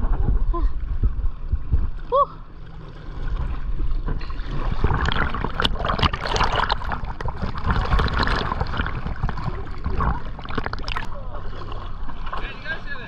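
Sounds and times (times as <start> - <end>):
low rumble: 0.0 - 12.3
water splashing and gurgling: 0.0 - 12.9.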